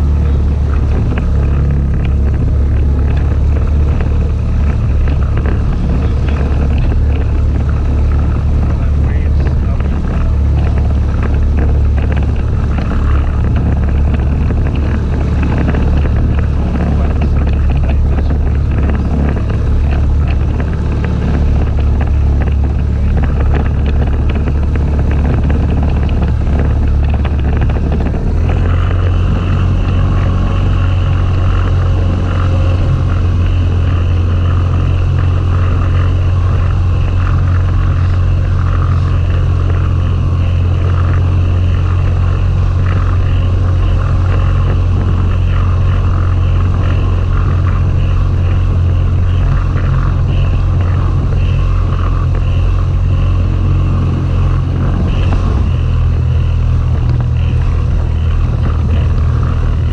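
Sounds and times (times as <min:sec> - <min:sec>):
outboard motor running: 0:00.0 - 0:59.9
wind and water rushing: 0:00.0 - 0:59.9.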